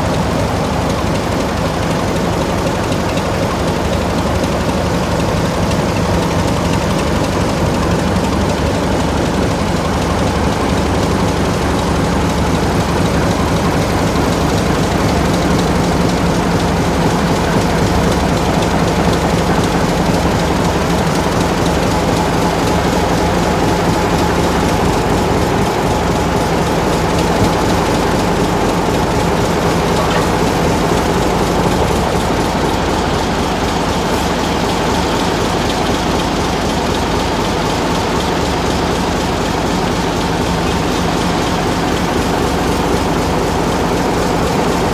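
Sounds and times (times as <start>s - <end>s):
diesel locomotive engine droning: 0.0s - 44.9s.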